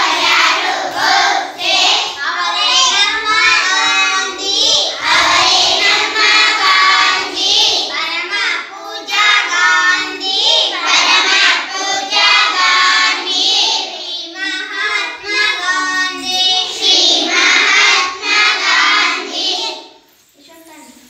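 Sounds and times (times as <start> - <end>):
children singing in chorus: 0.0 - 20.0.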